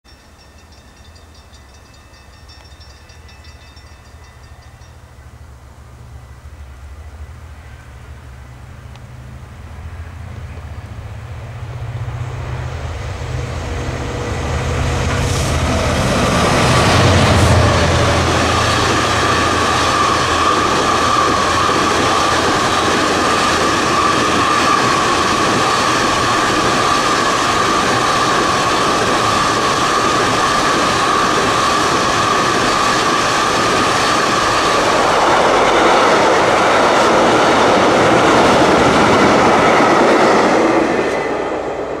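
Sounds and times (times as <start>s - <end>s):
train wagons rolling by: 0.1s - 6.8s, 8.7s - 42.0s
diesel locomotive engine rumbling: 0.1s - 42.0s
high whine from train wheels: 0.1s - 42.0s.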